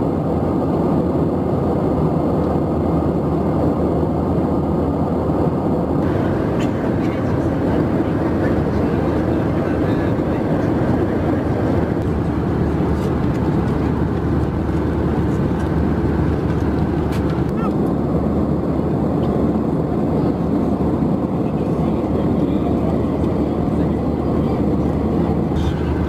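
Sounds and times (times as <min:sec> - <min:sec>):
airplane cabin noise: 0:00.0 - 0:26.0.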